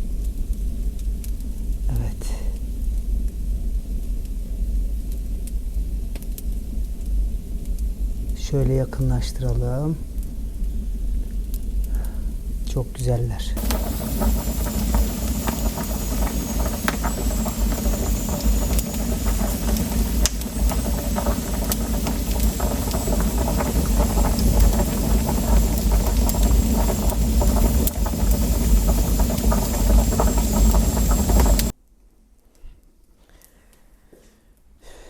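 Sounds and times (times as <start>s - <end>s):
wood fire crackling pops: 0.1s - 12.8s, 13.6s - 31.7s
stew boiling: 0.3s - 31.7s.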